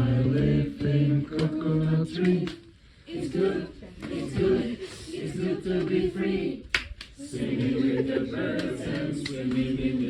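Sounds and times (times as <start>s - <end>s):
group singing unaccompanied: 0.0s - 10.0s.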